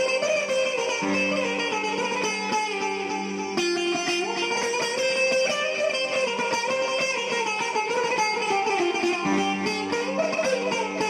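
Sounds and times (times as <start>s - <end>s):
plucked strings background music: 0.0s - 11.0s.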